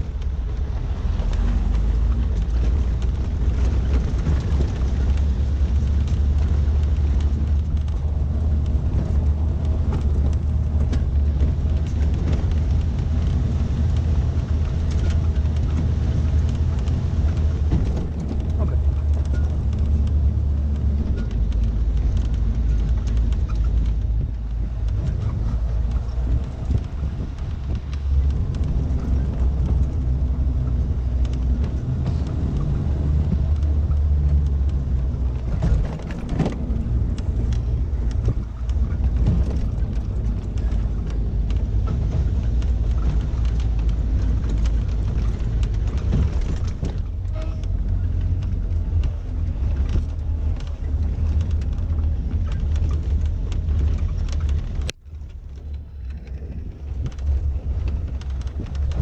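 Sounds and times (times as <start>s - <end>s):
car engine low rumble: 0.0s - 59.0s.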